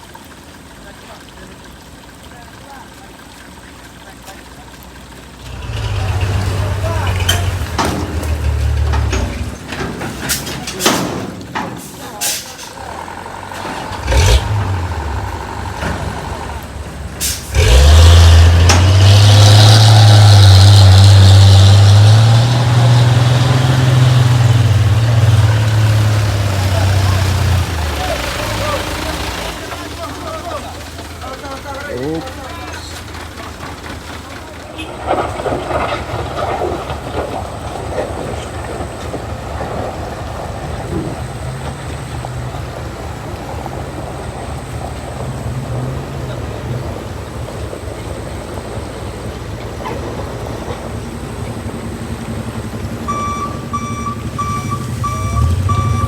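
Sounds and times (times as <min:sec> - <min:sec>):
outdoor road noise: 0:00.0 - 0:56.0
truck engine running: 0:00.0 - 0:56.0.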